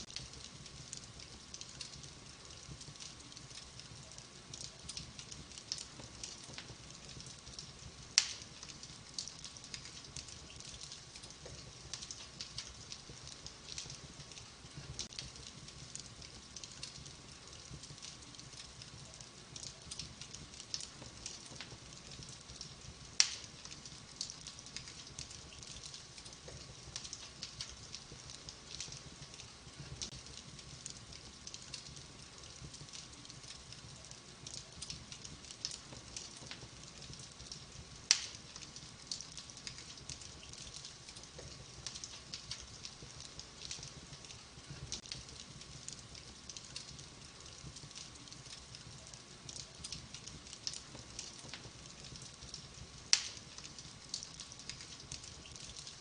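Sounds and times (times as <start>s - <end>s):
wood fire crackling: 0.0s - 56.0s
loud fire pops: 4.6s - 56.0s.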